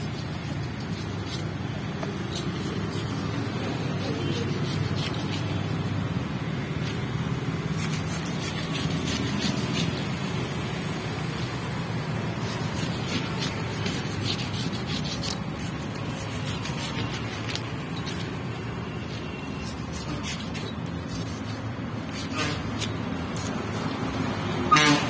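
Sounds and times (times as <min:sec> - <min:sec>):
knife scraping fish scales: 0:00.0 - 0:06.0, 0:07.7 - 0:10.1, 0:12.4 - 0:25.0.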